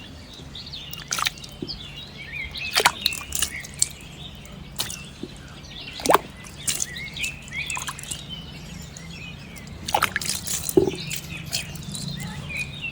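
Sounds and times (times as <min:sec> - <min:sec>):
small birds chirping: 0:00.0 - 0:12.9
water splashing and dripping: 0:00.3 - 0:12.8.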